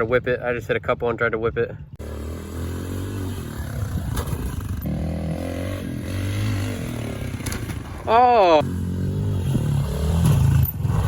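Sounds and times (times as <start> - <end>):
pit bike engine revving: 2.0 - 11.0.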